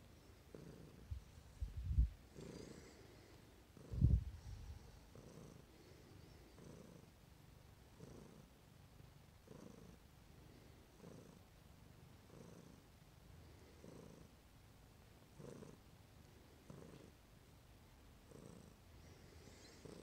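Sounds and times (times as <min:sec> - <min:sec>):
cat purring: 0:00.2 - 0:14.4, 0:15.2 - 0:17.2, 0:18.2 - 0:20.0.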